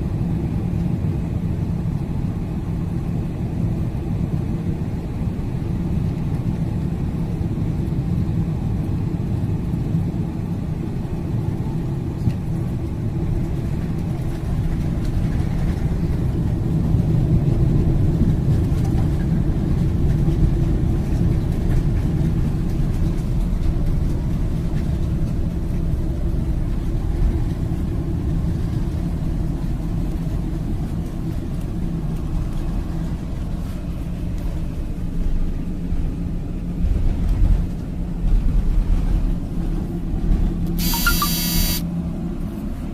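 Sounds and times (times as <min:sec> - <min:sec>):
airliner low rumble: 0:00.0 - 0:42.9.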